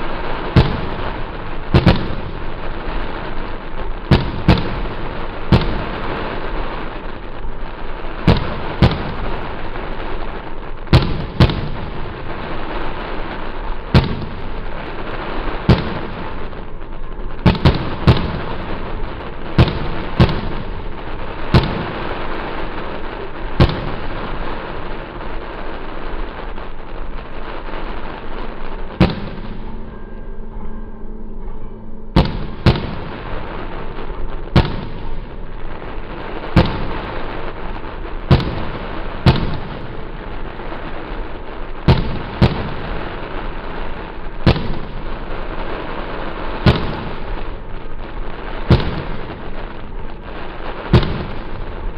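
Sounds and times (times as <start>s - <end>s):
fireworks bangs: 0.0s - 30.6s, 32.0s - 51.9s.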